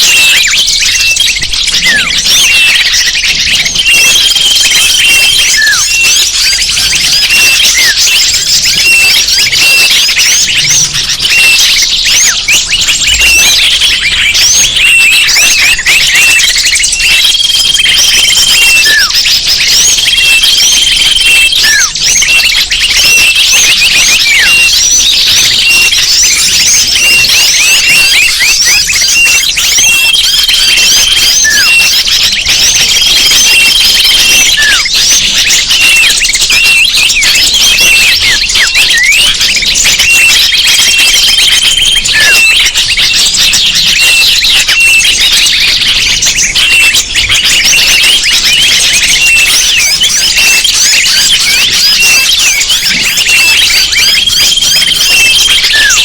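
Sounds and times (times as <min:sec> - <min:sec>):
downward-sweeping bird calls: 0:00.0 - 0:56.0
small birds chirping: 0:00.0 - 0:56.0.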